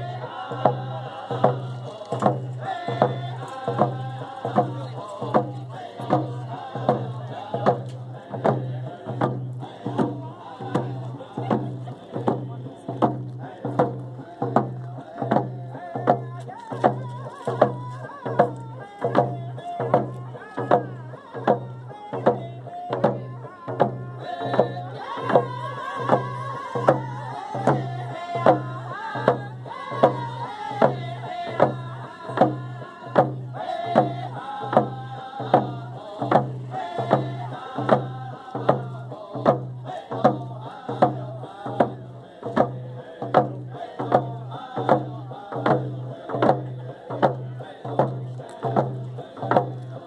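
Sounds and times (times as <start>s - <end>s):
drum beating slowly: 0.0s - 50.0s
voices singing: 0.0s - 50.0s.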